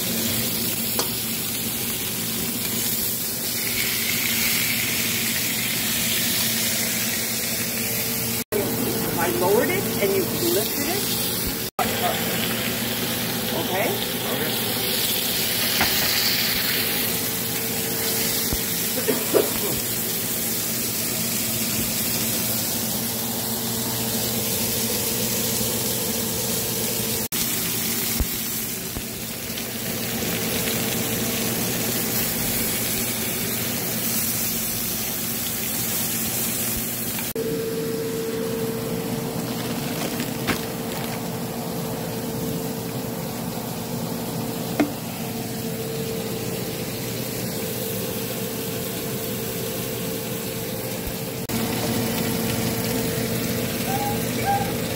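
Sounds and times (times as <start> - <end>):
steaks sizzling in grill pan: 0.0 - 37.4, 38.3 - 54.9.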